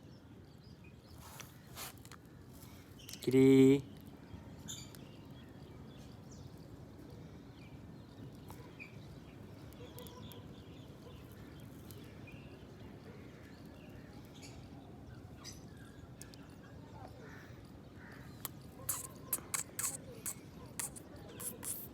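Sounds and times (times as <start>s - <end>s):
faint background noise: 0.0s - 21.9s.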